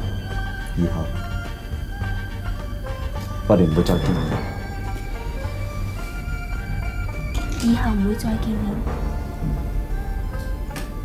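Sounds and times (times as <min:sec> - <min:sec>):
background music of held notes: 0:00.0 - 0:11.0.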